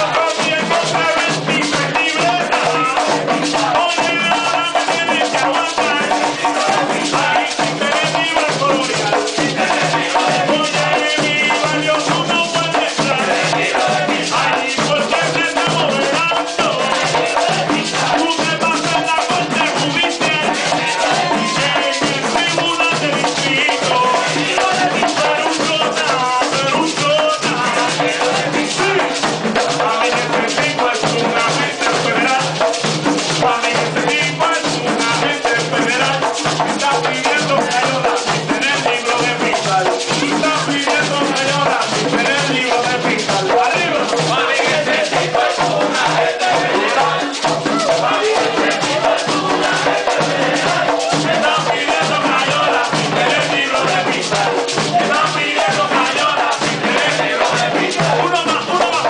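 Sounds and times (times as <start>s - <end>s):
person singing: 0.0s - 32.7s, 33.4s - 59.0s
frame drums beating rhythm: 0.0s - 59.0s.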